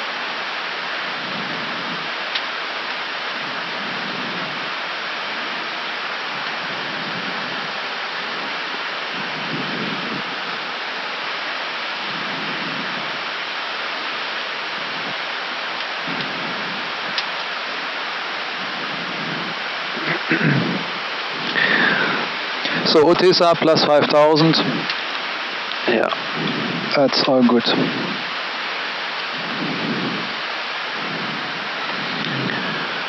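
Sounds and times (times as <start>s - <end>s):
air conditioning: 0.0s - 33.0s
rushing airflow: 0.0s - 33.0s.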